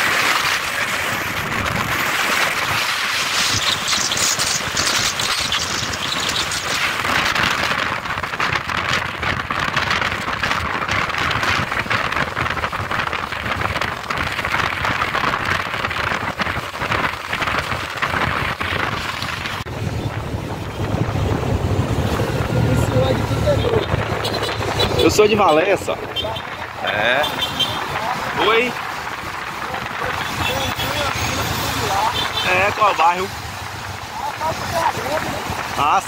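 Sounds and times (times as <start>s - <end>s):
road and traffic noise: 0.0s - 36.0s
wind buffeting microphone: 0.0s - 36.0s.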